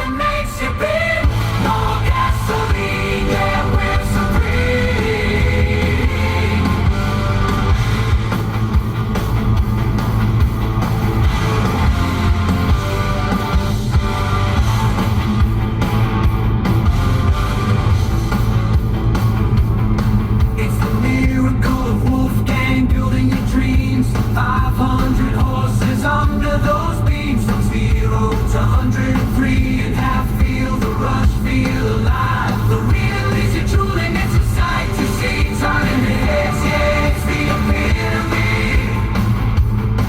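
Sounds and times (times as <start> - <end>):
heavy bass: 0.0 - 40.0
loud rock music: 0.0 - 40.0.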